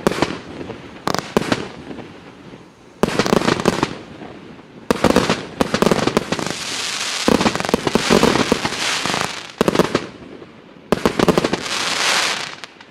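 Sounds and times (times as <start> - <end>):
firework bangs with crackling hiss: 0.0 - 12.9.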